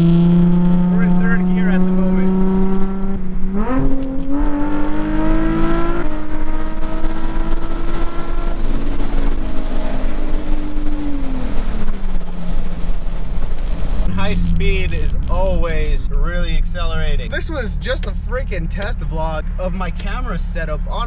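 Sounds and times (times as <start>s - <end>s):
car exhaust accelerating and cruising: 0.0s - 21.0s.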